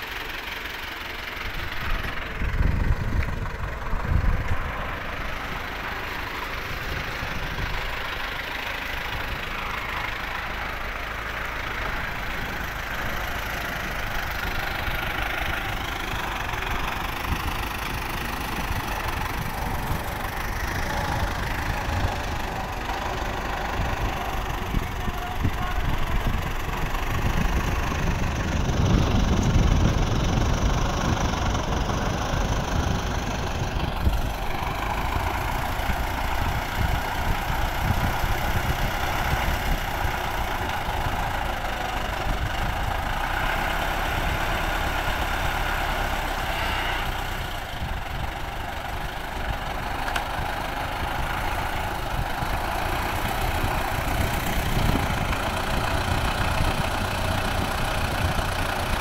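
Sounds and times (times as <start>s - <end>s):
tractor diesel engines running: 0.0s - 59.0s.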